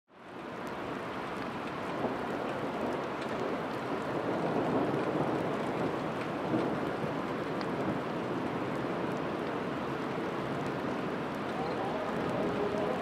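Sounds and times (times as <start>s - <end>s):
heavy rain pouring: 0.1s - 13.0s.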